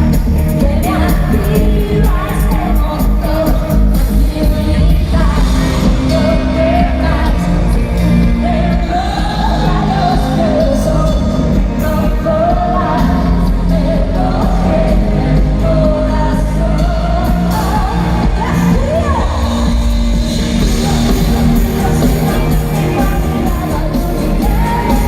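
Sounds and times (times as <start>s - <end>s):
bass-heavy pop backing: 0.0s - 25.0s
woman singing: 0.0s - 25.0s.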